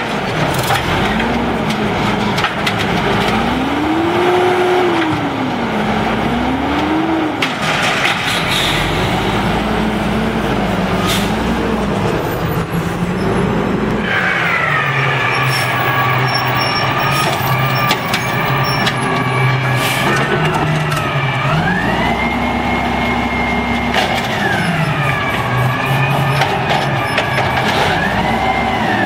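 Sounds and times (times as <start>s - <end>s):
diesel engine idling and revving: 0.0s - 29.0s.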